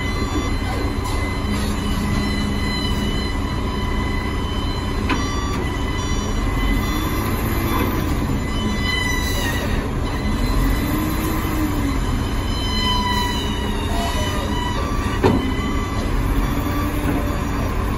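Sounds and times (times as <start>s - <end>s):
high hydraulic whine: 0.0s - 17.9s
loader diesel engine and hydraulics: 0.0s - 17.9s.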